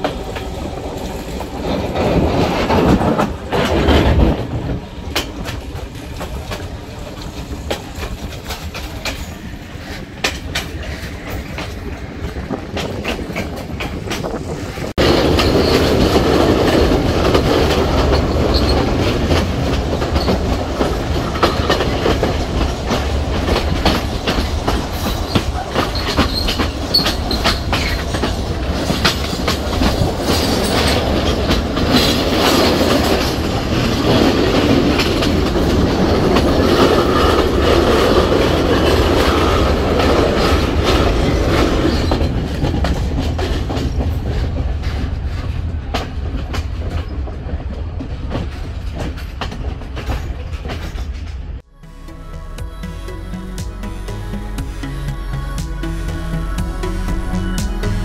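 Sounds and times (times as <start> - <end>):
train wheels clicking over rail joints: 0.0 - 51.7
train carriages rumbling and rattling: 0.0 - 58.0.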